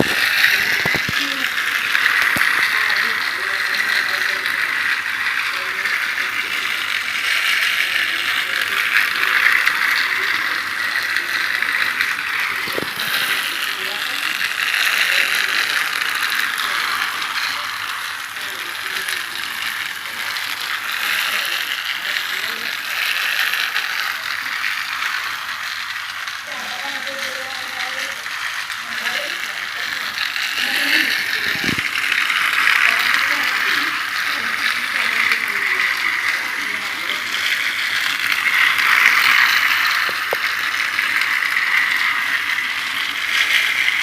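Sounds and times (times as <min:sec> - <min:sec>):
toy train motor whirring: 0:00.0 - 0:44.0.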